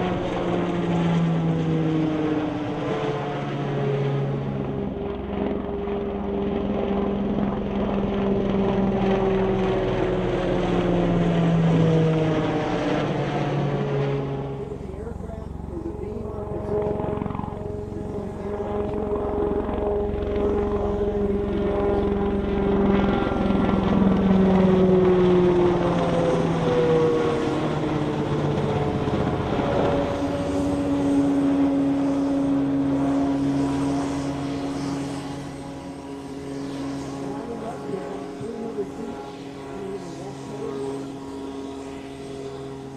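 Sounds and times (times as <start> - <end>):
helicopter turbine and rotor noise: 0.0 - 42.9.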